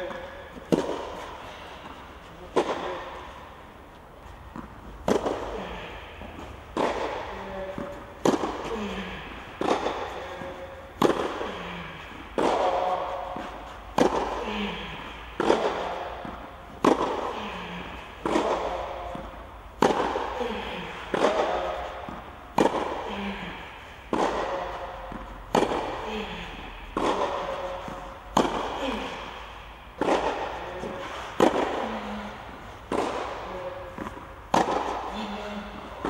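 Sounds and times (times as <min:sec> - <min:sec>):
tennis ball hit by racket: 0:00.0 - 0:03.7, 0:04.5 - 0:36.0.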